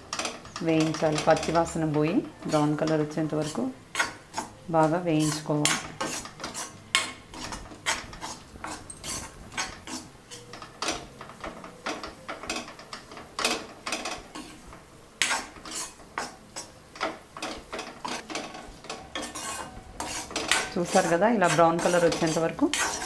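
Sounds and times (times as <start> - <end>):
metal spatula scraping a pan: 0.0 - 23.0.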